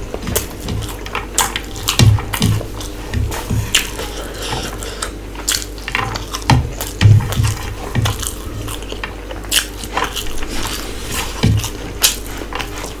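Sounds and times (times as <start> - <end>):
low chewing thuds: 0.0 - 13.0
close chewing with mouth clicks: 0.1 - 13.0.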